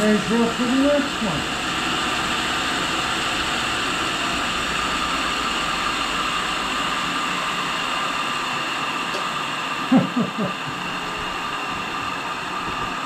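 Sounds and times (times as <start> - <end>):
grinder motor whine and hum: 0.0 - 13.0.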